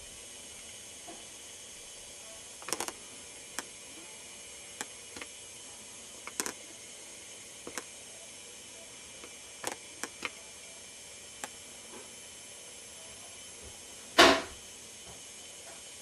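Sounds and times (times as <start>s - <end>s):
steady recording hiss: 0.0s - 16.0s.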